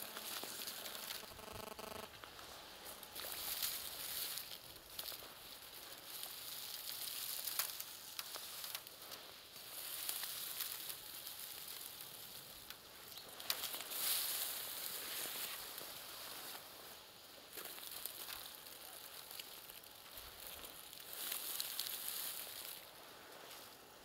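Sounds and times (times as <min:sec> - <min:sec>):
boots stepping through dry grass: 0:00.0 - 0:24.0.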